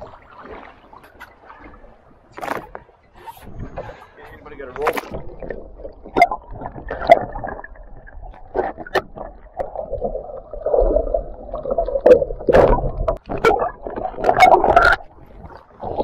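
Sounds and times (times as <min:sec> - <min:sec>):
underwater sloshing and gurgling: 0:00.0 - 0:16.0.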